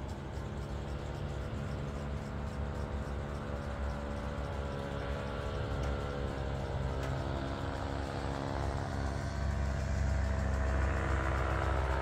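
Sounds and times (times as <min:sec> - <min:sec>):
paramotor engine droning overhead: 0:00.0 - 0:12.0.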